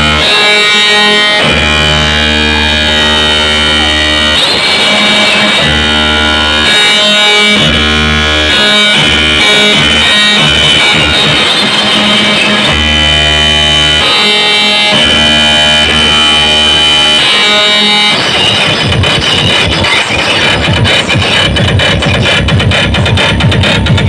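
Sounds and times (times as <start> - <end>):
droning electronic melody: 0.0 - 24.0
heavy bass: 0.0 - 24.0.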